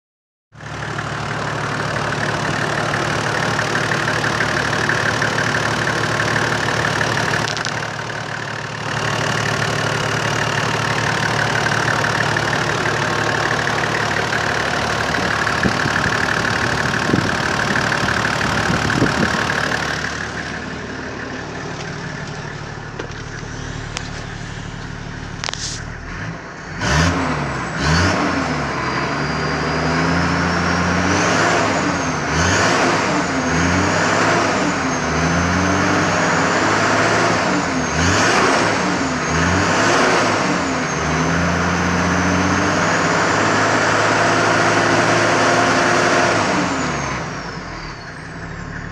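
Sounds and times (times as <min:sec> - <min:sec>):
diesel engine idling: 0:00.6 - 0:32.4, 0:33.1 - 0:48.9
engine revving: 0:00.6 - 0:48.9.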